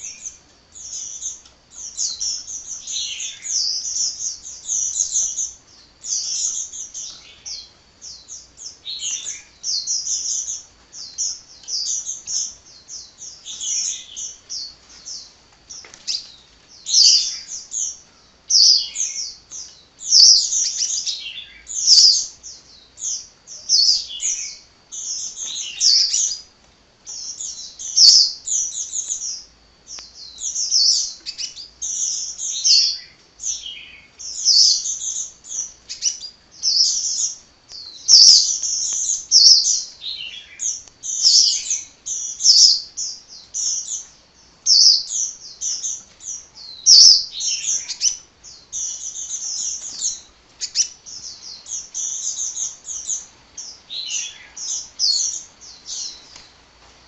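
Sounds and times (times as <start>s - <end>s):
bird twittering song: 0.0s - 56.6s.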